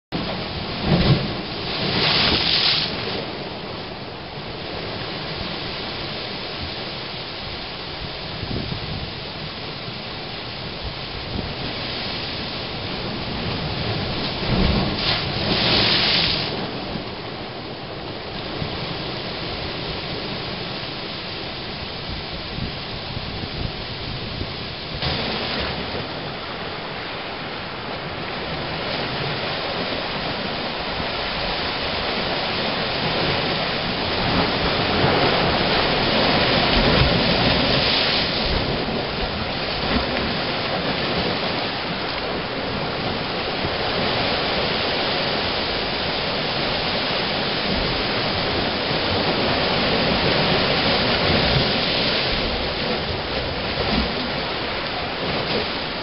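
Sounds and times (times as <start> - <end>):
waves rushing into blowhole: 0.2 - 56.0.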